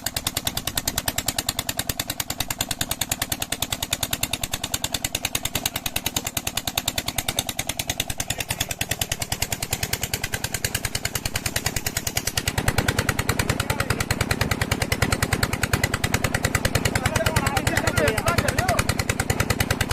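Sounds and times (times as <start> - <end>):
diesel engine thudding exhaust: 0.0 - 19.9.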